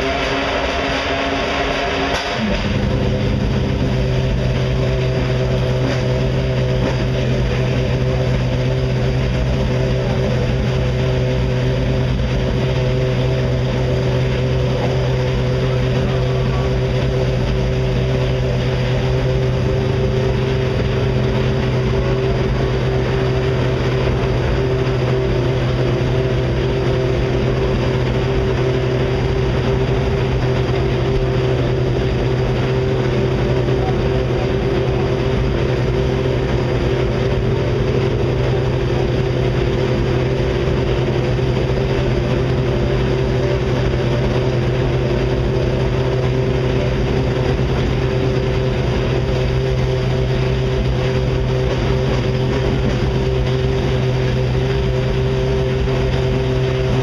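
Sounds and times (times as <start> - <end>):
race car engine idling: 0.0 - 57.0.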